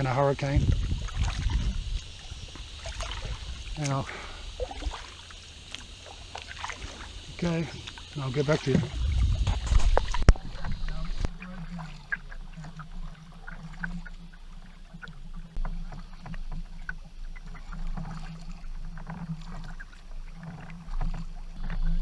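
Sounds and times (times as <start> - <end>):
paddles pulling through water: 0.0 - 22.0
small splashes and drips: 0.7 - 22.0.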